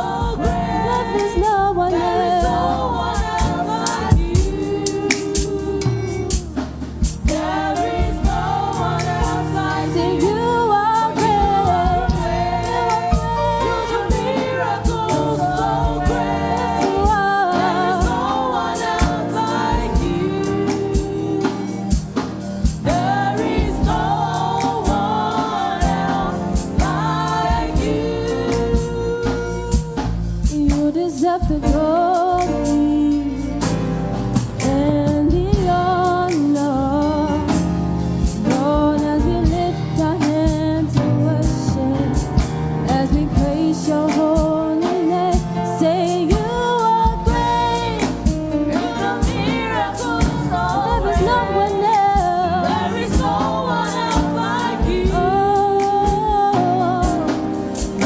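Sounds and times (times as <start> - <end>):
band with bass and drums: 0.0 - 58.0
gospel singing voices: 0.0 - 58.0.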